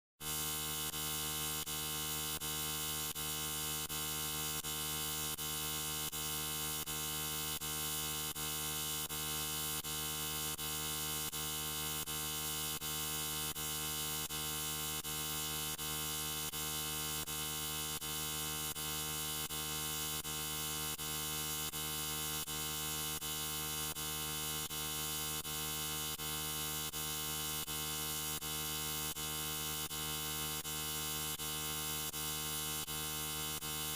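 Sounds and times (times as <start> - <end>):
steady electrical buzz: 0.2 - 33.9.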